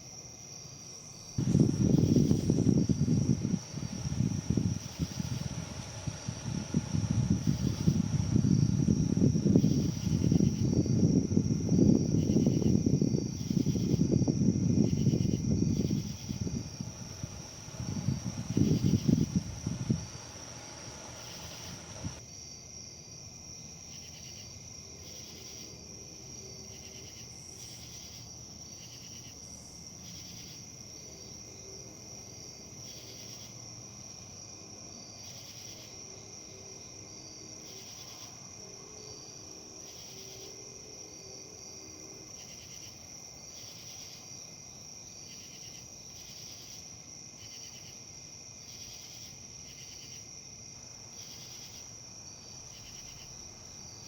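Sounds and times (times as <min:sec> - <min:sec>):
crickets trilling: 0:00.0 - 0:54.0
insect chirps pulsing: 0:00.0 - 0:54.0.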